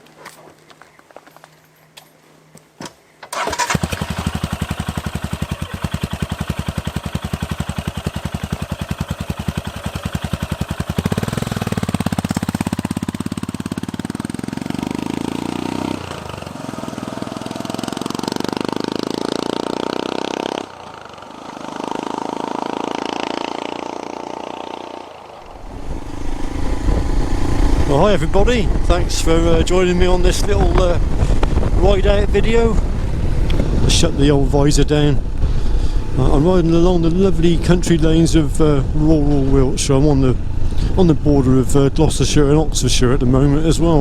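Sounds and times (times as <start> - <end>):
motorcycle engine starting and revving: 3.2 - 44.0.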